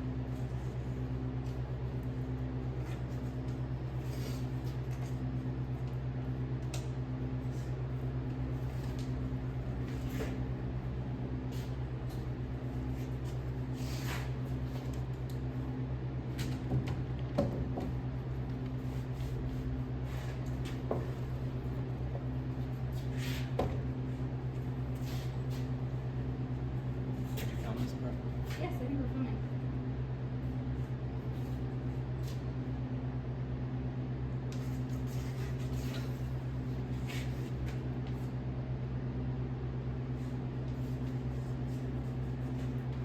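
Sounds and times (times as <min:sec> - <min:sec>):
low pulsing mechanical hum: 0:00.0 - 0:43.0.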